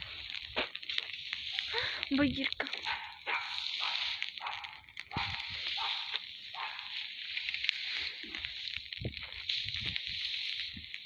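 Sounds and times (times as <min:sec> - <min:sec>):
bonfire hissing and crackling: 0:00.0 - 0:11.0.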